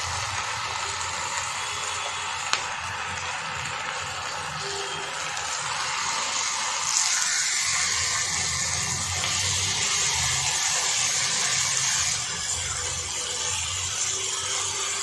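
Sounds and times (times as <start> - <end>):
tomatoes sizzling in hot oil: 0.0 - 15.0.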